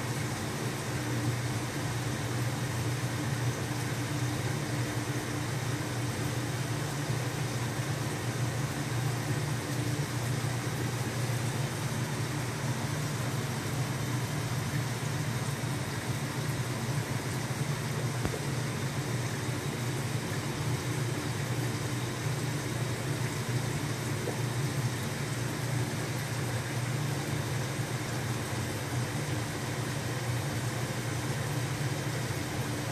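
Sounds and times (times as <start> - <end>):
low mechanical hum: 0.0 - 32.9.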